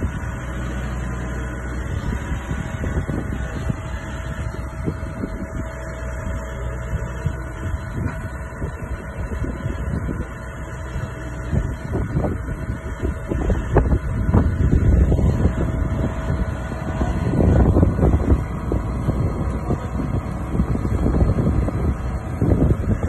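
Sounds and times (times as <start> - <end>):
feed mixer machine rumble: 0.0 - 23.0.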